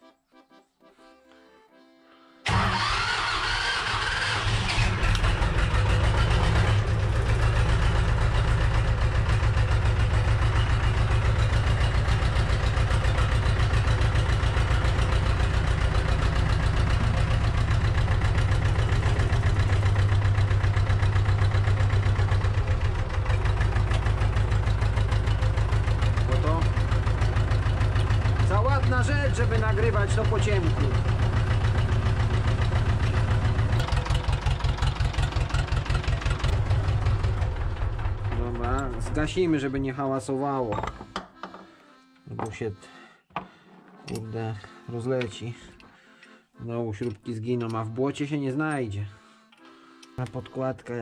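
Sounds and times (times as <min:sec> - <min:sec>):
tractor engine starting and idling: 0:02.4 - 0:42.6, 0:43.9 - 0:51.0.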